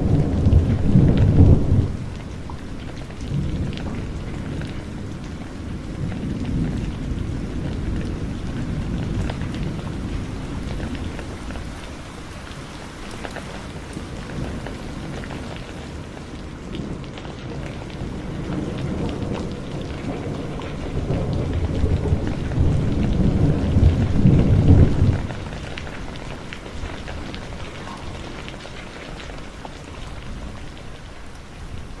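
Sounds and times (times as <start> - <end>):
deep roll of thunder: 0.0 - 12.0, 13.8 - 31.0
heavy rain falling: 0.0 - 32.0
raindrops striking close by: 0.0 - 32.0.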